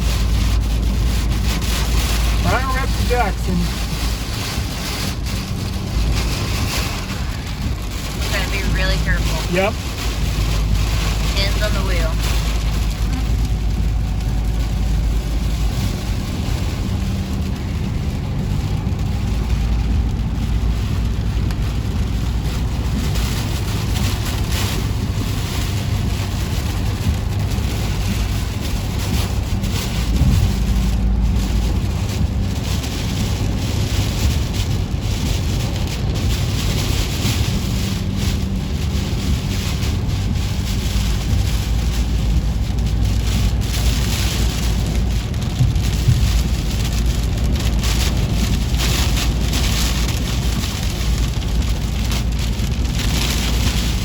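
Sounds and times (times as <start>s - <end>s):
rain and wind on car body: 0.0s - 54.0s
road and engine rumble: 0.0s - 54.0s.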